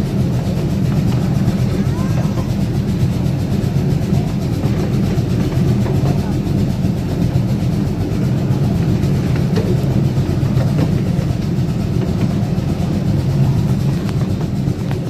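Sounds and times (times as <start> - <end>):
train cars rolling on track: 0.0 - 15.0.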